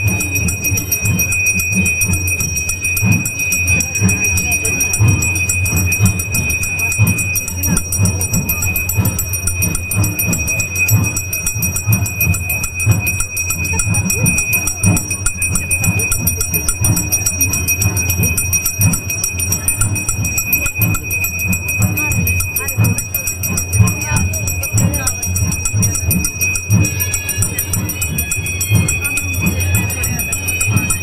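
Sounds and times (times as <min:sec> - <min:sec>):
bell rung rapidly: 0:00.0 - 0:31.0
low drumbeats: 0:00.0 - 0:31.0.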